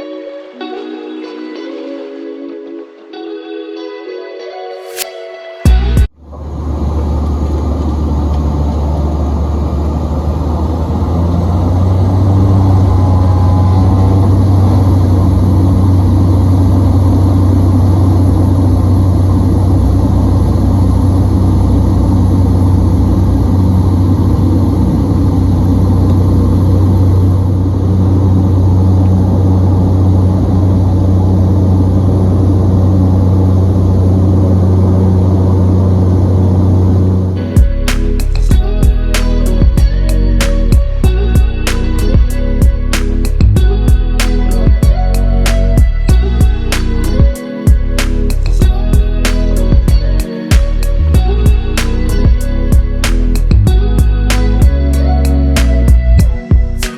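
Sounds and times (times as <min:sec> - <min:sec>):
motor engine droning: 0:05.7 - 0:56.9.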